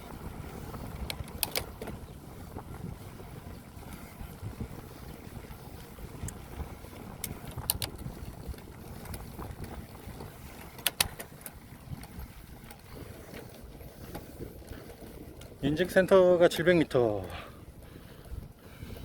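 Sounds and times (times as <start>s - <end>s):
bicycle road noise: 0.0s - 19.0s
wind rumbling on microphone: 0.0s - 19.0s.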